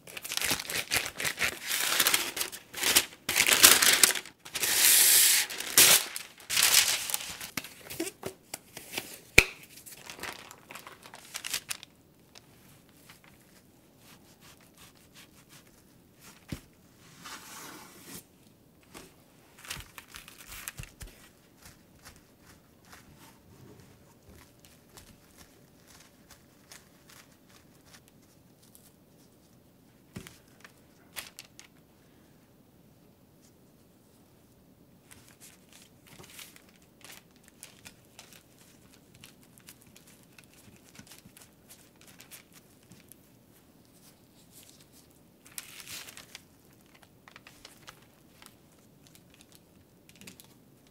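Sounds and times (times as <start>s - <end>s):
parchment paper crinkling: 0.0s - 16.8s, 18.8s - 31.8s, 35.0s - 50.9s.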